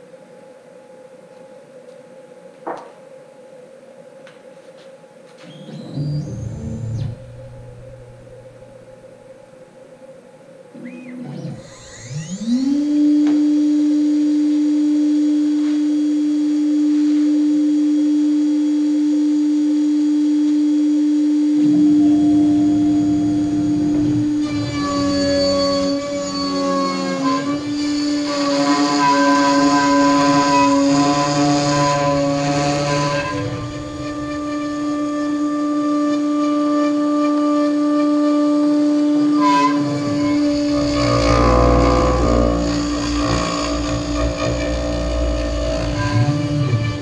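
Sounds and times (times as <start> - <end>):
router spindle whine: 5.4 - 10.1, 10.7 - 47.0.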